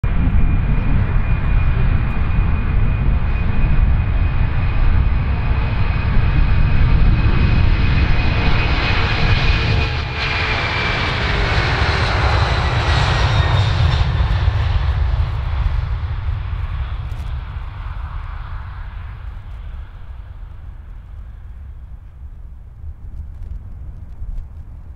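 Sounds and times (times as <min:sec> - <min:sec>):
jet engines roaring at takeoff: 0:00.0 - 0:24.9.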